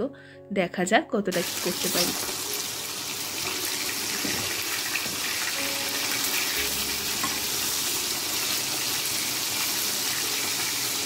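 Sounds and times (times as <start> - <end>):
fish sizzling in hot oil: 1.3 - 11.0.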